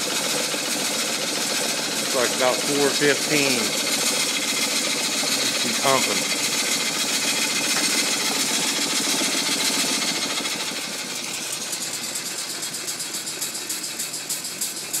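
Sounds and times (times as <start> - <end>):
steam engine clatter and chuff: 0.0 - 15.0.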